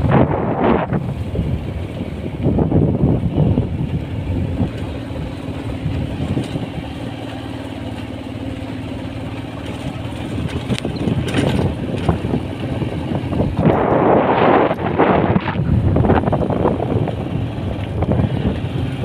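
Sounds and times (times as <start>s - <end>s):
vehicle engine running: 0.0s - 19.0s
wind buffeting microphone: 0.0s - 19.0s.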